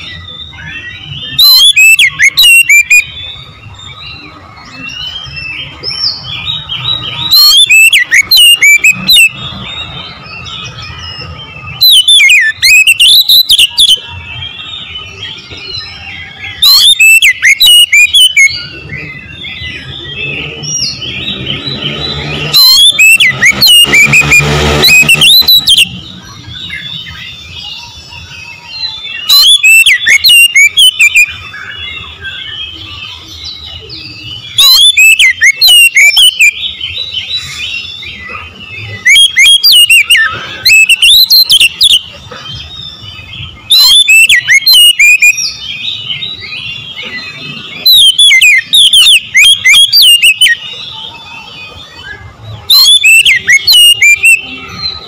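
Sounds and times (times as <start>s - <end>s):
bird singing whistles and trills: 0.0s - 55.0s
soft bird twittering: 0.0s - 55.0s.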